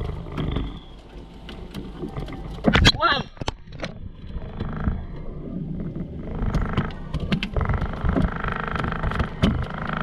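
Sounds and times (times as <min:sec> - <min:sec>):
outboard motor running: 0:00.0 - 0:02.7, 0:04.1 - 0:10.0.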